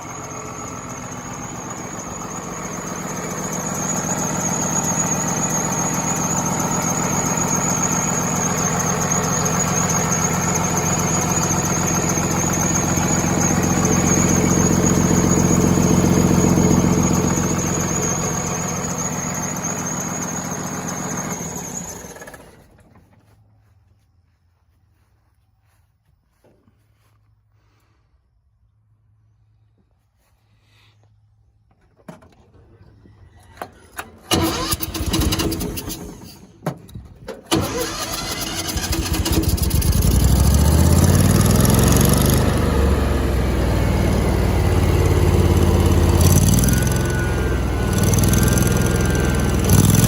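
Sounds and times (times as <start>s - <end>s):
engine drone: 0.0s - 23.9s, 33.6s - 50.0s.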